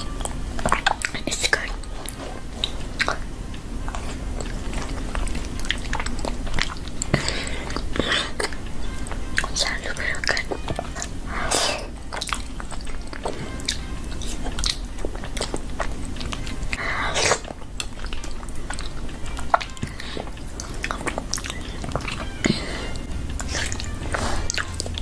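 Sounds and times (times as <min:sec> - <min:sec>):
child chewing with lip smacks: 0:00.0 - 0:25.0.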